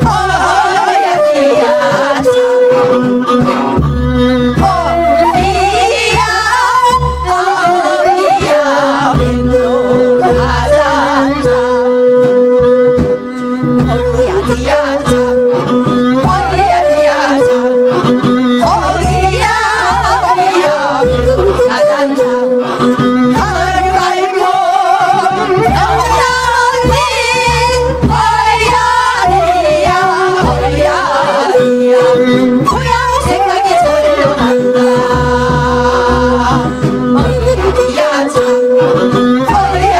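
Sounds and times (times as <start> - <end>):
instrumental accompaniment: 0.0 - 39.9
women singing folk song: 0.0 - 39.9.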